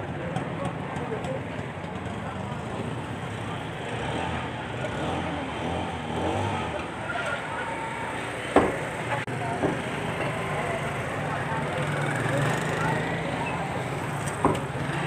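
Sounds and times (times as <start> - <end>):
background voices talking: 0.0 - 15.0
traffic running past: 0.0 - 15.0.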